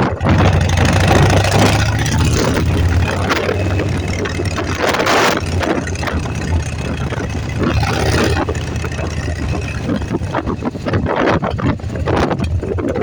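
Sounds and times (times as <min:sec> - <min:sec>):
motorcycle engine droning: 0:00.0 - 0:13.0
wind gusts: 0:00.0 - 0:13.0.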